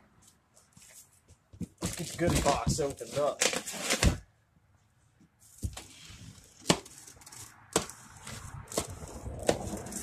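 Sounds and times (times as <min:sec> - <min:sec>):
strap and cardboard rustling: 0:00.2 - 0:04.3, 0:05.2 - 0:10.0.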